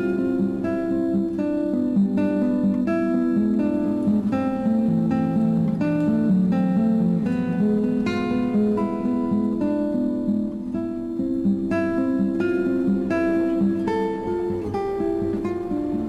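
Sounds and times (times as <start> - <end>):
acoustic guitar picking and strumming: 0.0 - 16.0.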